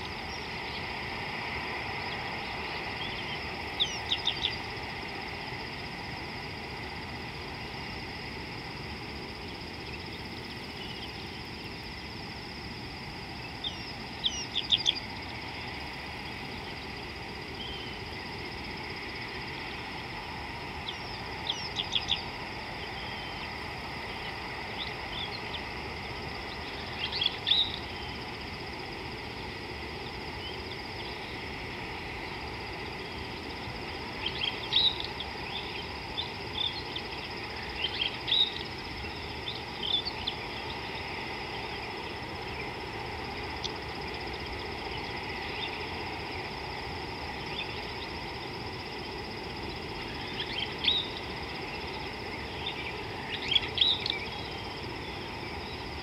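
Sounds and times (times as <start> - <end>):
outdoor hiss: 0.0 - 56.0.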